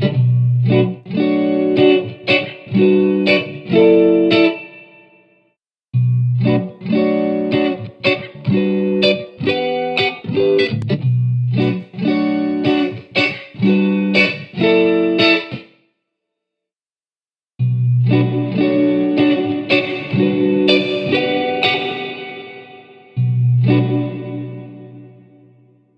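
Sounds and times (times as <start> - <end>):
electric guitar plucked notes: 0.0 - 5.0, 6.0 - 15.6, 17.6 - 25.8.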